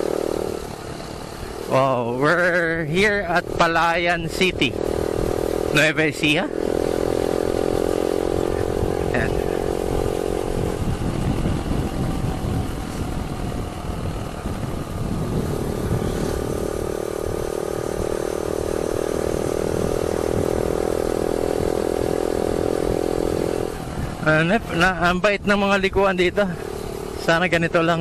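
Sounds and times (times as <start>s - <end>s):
motorcycle engine running: 0.0s - 28.0s
wind rushing over microphone: 0.0s - 28.0s.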